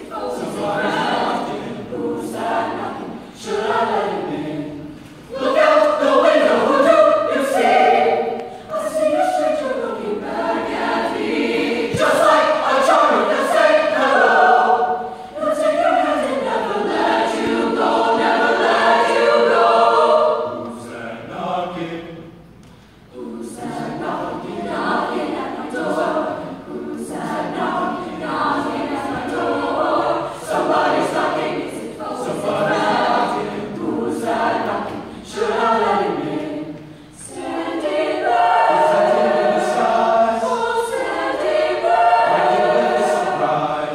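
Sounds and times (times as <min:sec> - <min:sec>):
mixed choir singing: 0:00.0 - 0:43.9.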